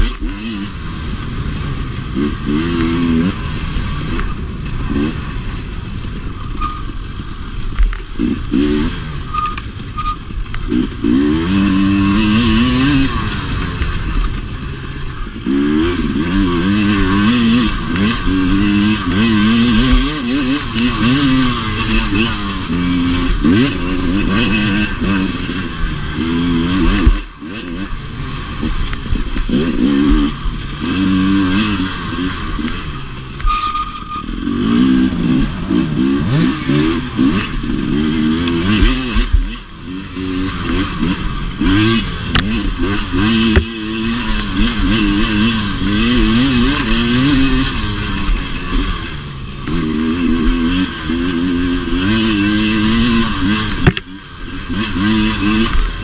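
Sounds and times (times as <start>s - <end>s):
dirt bike engine revving: 0.0s - 56.0s
knocks and clatter from bike: 4.0s - 56.0s.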